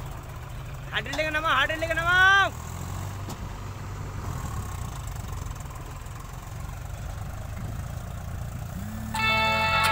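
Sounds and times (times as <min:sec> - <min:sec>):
tractor engine rumbling: 0:00.0 - 0:09.9.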